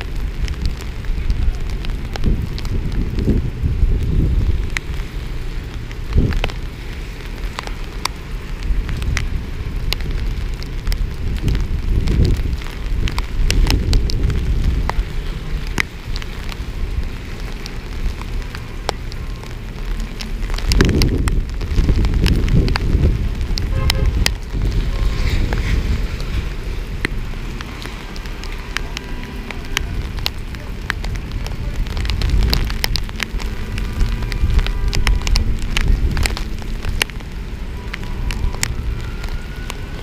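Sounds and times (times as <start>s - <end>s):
cars on wet street: 0.0s - 40.0s
heavy rain: 0.0s - 40.0s
raindrops ticking on camera: 0.0s - 40.0s
wind on microphone: 0.0s - 40.0s.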